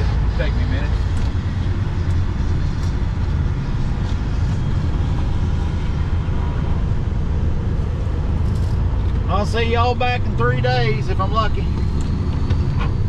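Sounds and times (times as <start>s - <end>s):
diesel engine deep drone: 0.0s - 13.0s.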